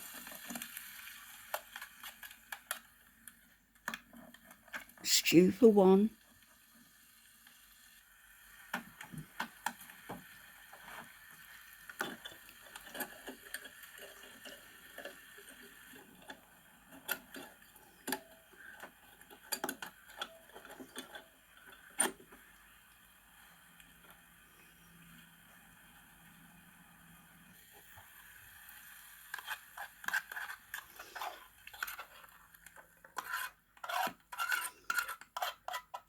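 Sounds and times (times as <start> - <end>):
faint steady hiss: 0.0 - 36.0.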